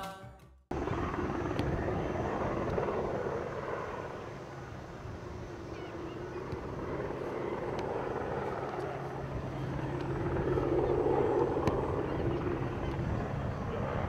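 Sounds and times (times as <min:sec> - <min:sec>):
outdoor rumble and hiss: 0:00.7 - 0:14.0.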